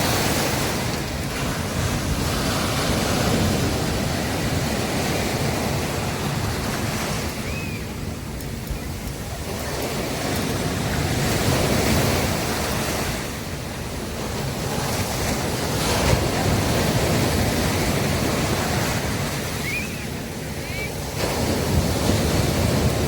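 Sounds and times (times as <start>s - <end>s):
sea waves breaking on beach: 0.0s - 23.0s.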